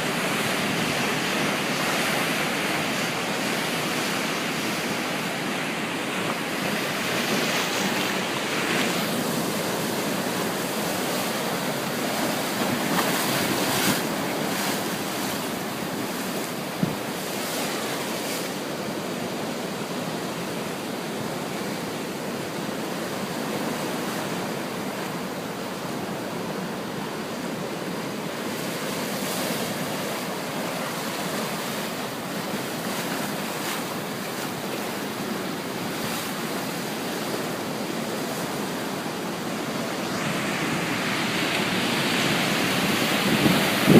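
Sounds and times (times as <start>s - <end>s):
ocean surf washing ashore: 0.0s - 43.9s.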